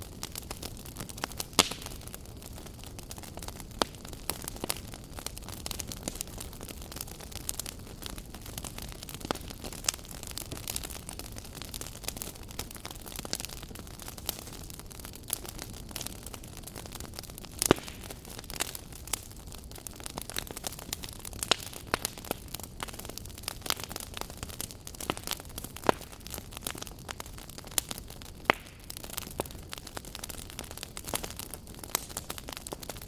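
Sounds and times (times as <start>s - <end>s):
fire crackling in a fireplace: 0.0s - 33.0s.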